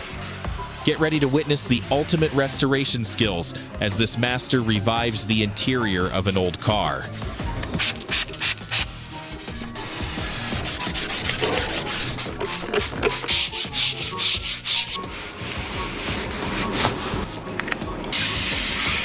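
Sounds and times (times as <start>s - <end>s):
rough rubbing strokes: 0.0s - 3.4s, 4.2s - 19.0s.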